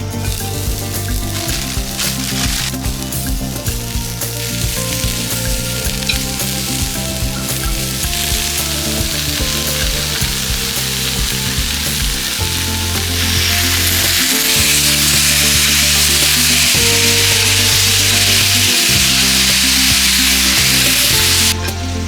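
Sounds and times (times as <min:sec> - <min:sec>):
background music: 0:00.0 - 0:22.0
food frying in a pan: 0:00.0 - 0:22.0.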